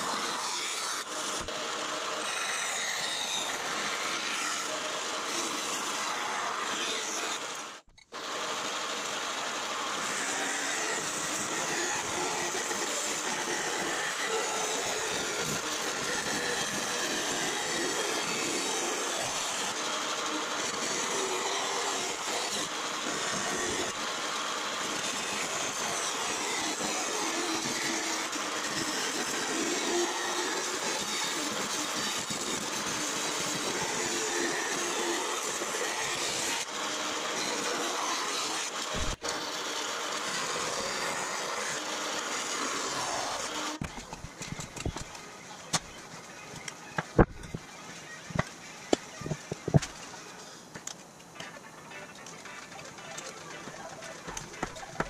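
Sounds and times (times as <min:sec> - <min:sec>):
bandsaw cutting aluminum sheet: 0:00.0 - 0:55.0.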